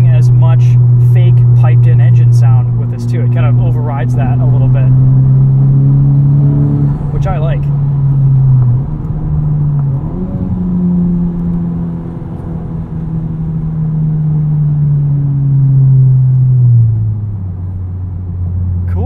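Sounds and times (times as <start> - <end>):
car engine revving and slowing: 0.0 - 19.0.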